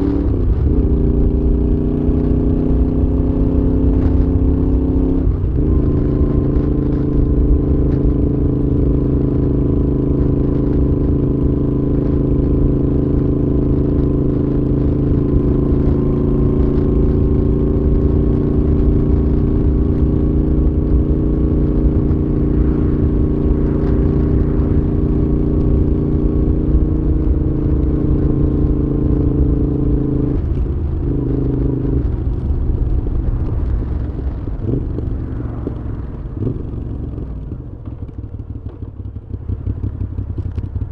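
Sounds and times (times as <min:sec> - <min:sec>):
low wind rumble: 0:00.0 - 0:40.9
motorcycle engine running: 0:00.0 - 0:40.9.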